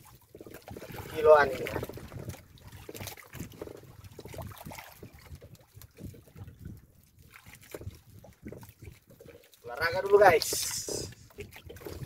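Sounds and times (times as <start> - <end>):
water lapping against boat: 0.0 - 12.0
wind buffeting microphone: 0.0 - 12.0.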